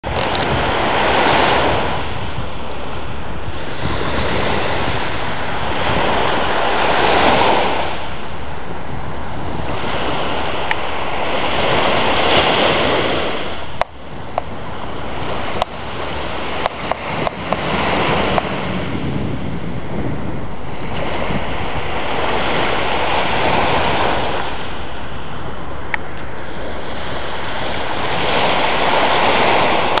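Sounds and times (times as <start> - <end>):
small waves washing onto sand: 0.0 - 30.0
wind rumbling on microphone: 0.0 - 30.0.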